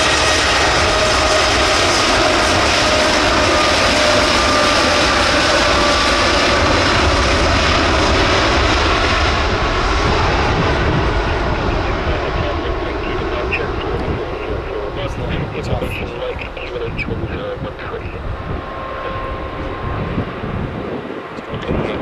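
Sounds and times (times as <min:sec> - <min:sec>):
jet engines at high power: 0:00.0 - 0:22.0.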